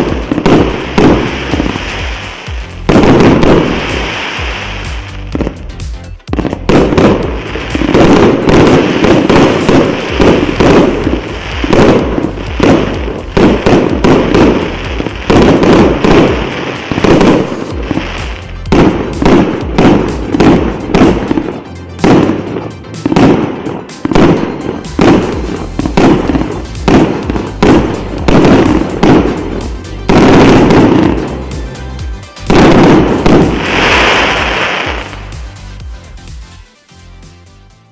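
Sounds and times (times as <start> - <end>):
fireworks launching and bursting: 0.0 - 36.6.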